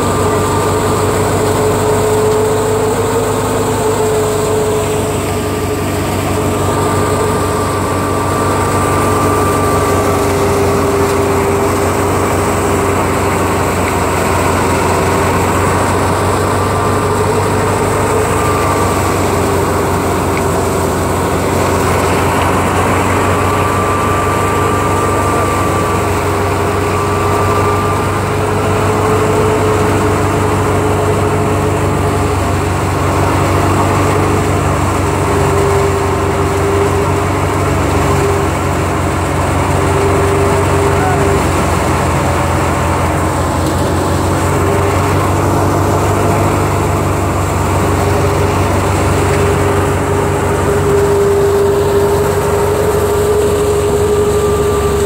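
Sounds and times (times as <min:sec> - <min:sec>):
high mechanical whine: 0:00.0 - 0:55.0
thresher engine drone: 0:00.0 - 0:55.0.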